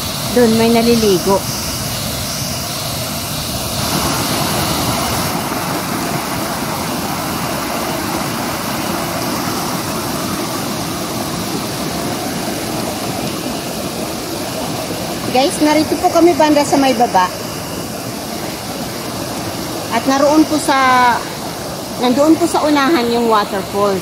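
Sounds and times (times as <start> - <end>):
waterfall plunging into pool: 2.7 - 24.0
stream tumbling over rocks: 3.8 - 24.0.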